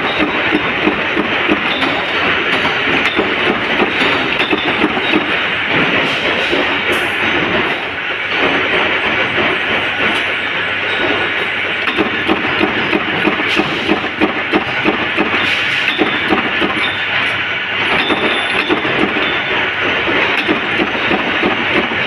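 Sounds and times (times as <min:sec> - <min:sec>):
power press stamping clatter: 0:00.0 - 0:07.8, 0:11.8 - 0:22.0.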